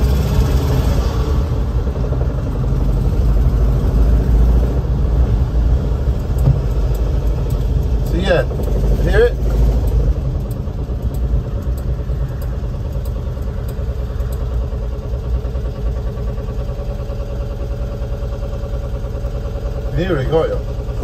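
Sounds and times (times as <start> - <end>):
road noise: 0.0 - 21.0
van engine running: 0.0 - 21.0.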